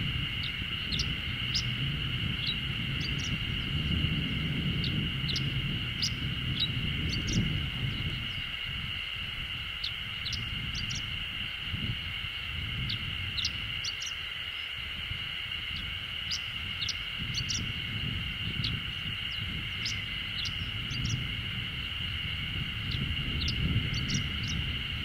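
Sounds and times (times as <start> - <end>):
bunting singing: 0.0 - 25.0
steady high buzz: 0.0 - 25.0.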